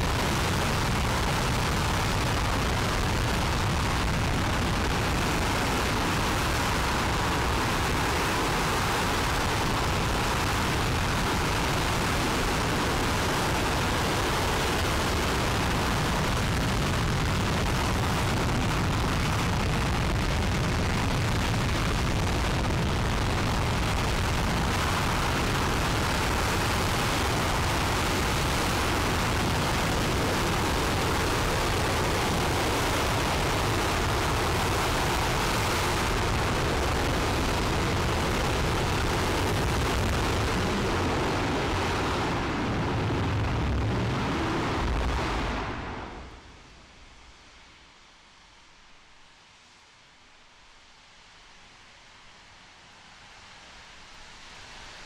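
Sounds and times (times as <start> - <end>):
rocket engine roaring: 0.0 - 46.6.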